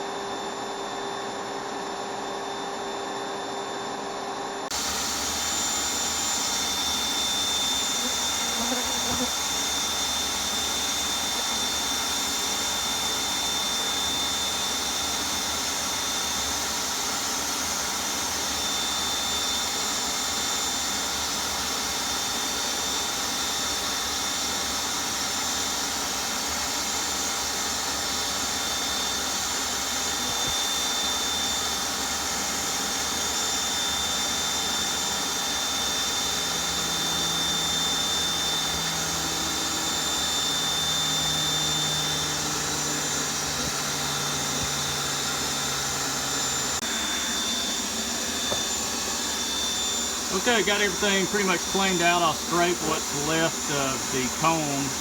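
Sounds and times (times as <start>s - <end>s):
shop vac high whine: 0.0s - 55.0s.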